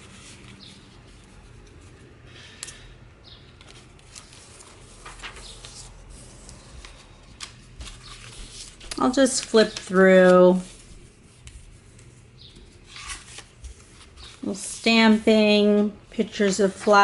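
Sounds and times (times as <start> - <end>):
paper rustling: 0.0 - 2.8, 3.5 - 17.0.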